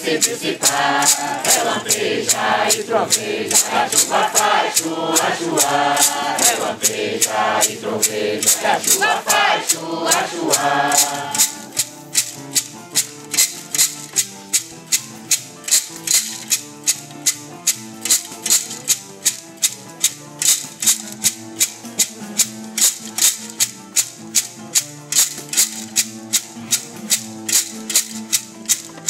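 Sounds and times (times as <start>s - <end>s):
held instrumental notes: 0.0s - 29.0s
tin-can rattles shaken: 0.0s - 29.0s.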